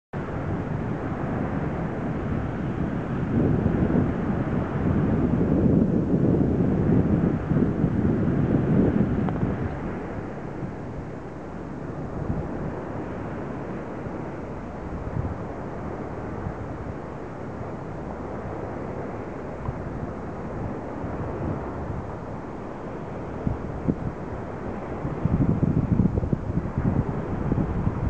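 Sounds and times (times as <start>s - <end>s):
wind buffeting microphone: 0.2s - 28.0s.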